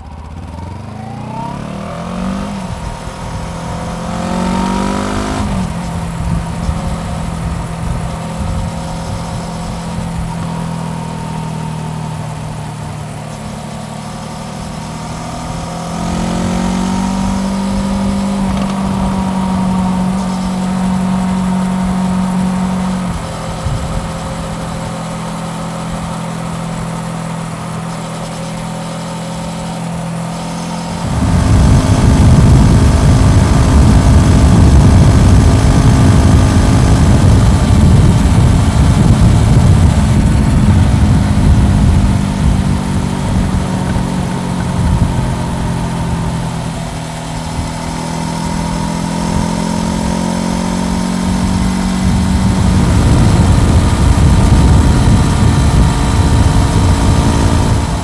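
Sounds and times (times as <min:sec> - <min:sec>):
motorcycle engine running: 0:00.0 - 0:58.0
deep rushing noise: 0:01.8 - 0:27.8, 0:29.6 - 0:58.0.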